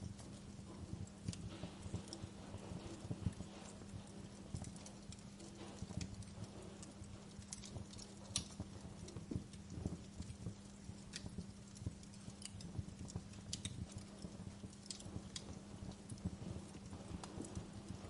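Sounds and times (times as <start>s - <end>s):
steady low hum: 0.0s - 18.0s
wood fire crackling: 0.0s - 18.0s.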